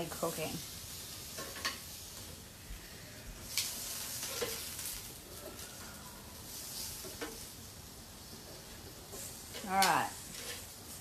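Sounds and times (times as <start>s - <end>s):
vegetables sizzling on grill: 0.0s - 11.0s.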